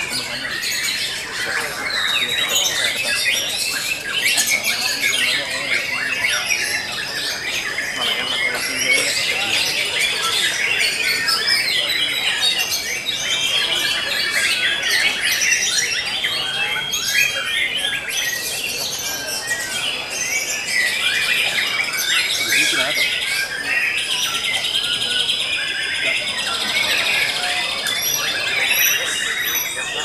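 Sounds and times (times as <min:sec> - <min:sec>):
songbirds chorus: 0:00.0 - 0:30.0.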